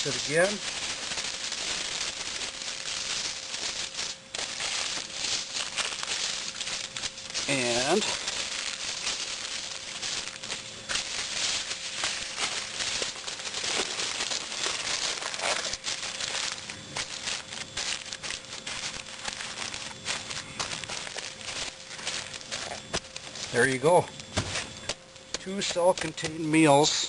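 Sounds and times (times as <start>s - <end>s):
aluminium foil crinkling: 0.0s - 27.0s.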